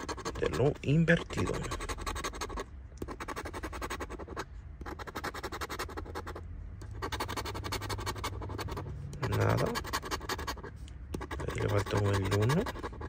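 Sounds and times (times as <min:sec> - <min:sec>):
scraping scratch-off ticket: 0:00.0 - 0:13.0.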